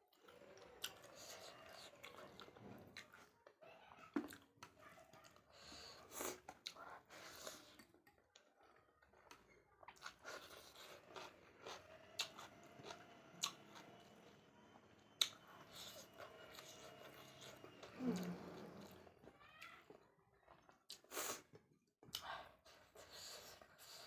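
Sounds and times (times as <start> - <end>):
person chewing food: 0.1 - 3.5, 4.1 - 14.4, 15.2 - 24.0.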